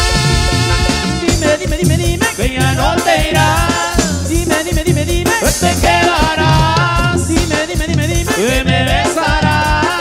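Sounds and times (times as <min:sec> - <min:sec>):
regional band music with dance beat: 0:00.0 - 0:10.0.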